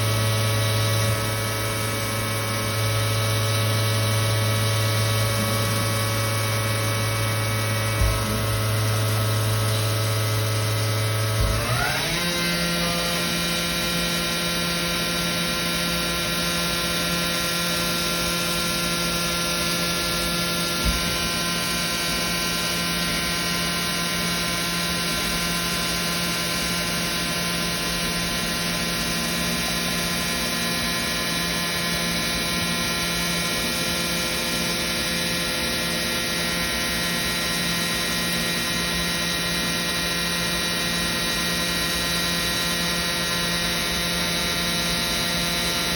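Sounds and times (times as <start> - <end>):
lathe whining: 0.0 - 45.9.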